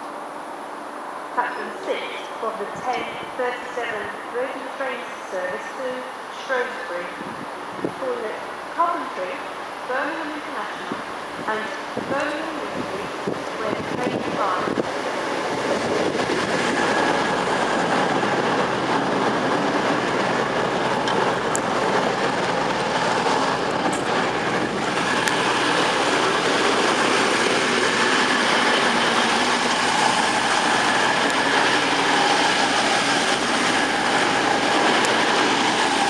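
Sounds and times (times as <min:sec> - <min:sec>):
train running on rails: 0:00.0 - 0:36.0.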